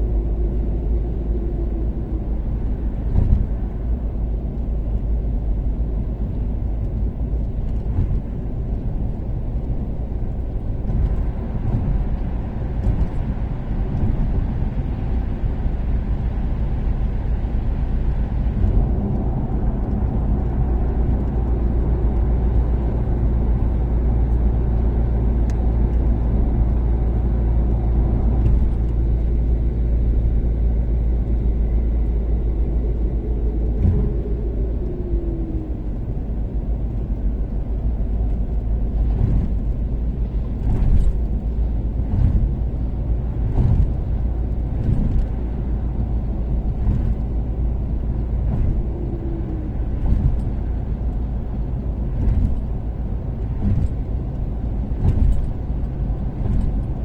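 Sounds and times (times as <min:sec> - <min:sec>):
car engine cruising: 0:00.0 - 0:57.0
road noise: 0:00.0 - 0:57.0.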